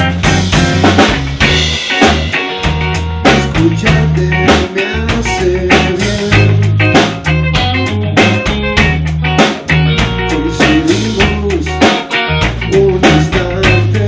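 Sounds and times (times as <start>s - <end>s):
snare and cymbal hits: 0.0s - 4.8s, 5.8s - 13.8s
low bass notes: 0.0s - 14.0s
rock band playing: 0.0s - 14.0s.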